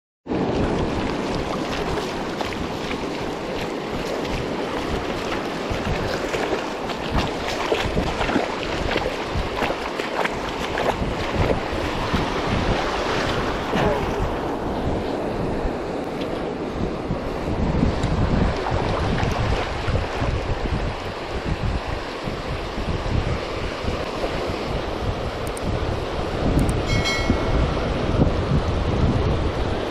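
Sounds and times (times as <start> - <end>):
surf washing onto beach: 0.3 - 29.9
wind buffeting microphone: 0.3 - 29.9.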